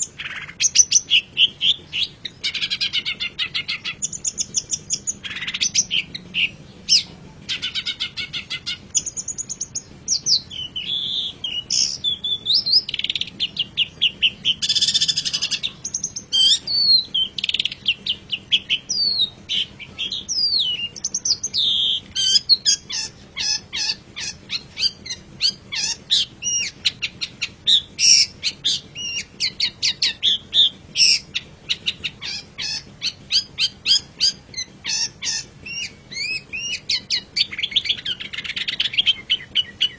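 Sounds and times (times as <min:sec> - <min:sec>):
shrike singing: 0:00.0 - 0:39.9.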